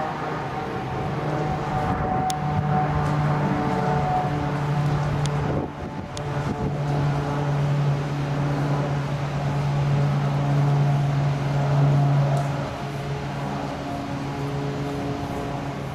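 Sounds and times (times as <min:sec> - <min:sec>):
jet engines droning: 0:00.0 - 0:15.9.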